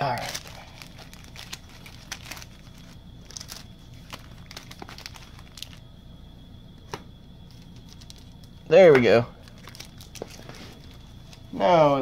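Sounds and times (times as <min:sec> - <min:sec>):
card pack wrappers crinkling: 0:00.0 - 0:05.8, 0:07.5 - 0:11.6.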